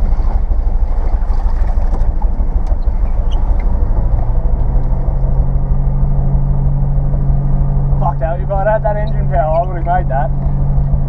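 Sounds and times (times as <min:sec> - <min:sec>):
car engine running roughly: 0:00.0 - 0:11.0
droning hum: 0:00.0 - 0:11.0.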